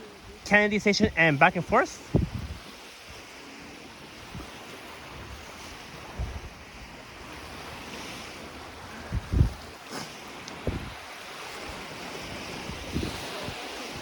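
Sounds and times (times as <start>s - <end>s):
small waves washing on shore: 0.0s - 14.0s
wind on microphone: 0.0s - 14.0s.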